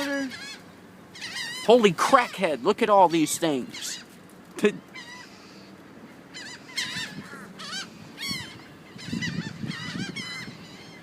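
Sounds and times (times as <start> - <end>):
flock of birds calling: 0.0 - 11.0.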